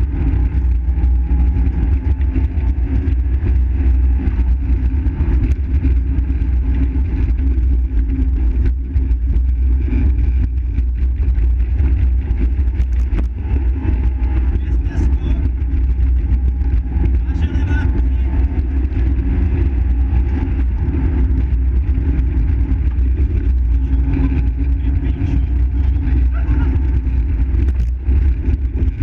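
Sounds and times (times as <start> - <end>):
car engine rumbling under load: 0.0 - 29.0.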